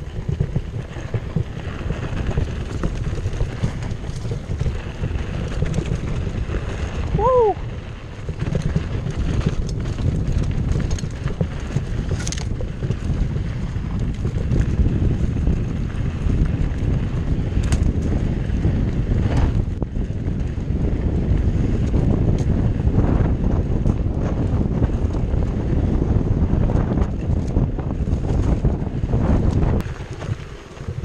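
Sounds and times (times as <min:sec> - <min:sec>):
bike clicks and rattles: 0:00.0 - 0:31.0
tyres rumbling on dirt: 0:00.0 - 0:31.0
wind buffeting microphone: 0:00.0 - 0:31.0.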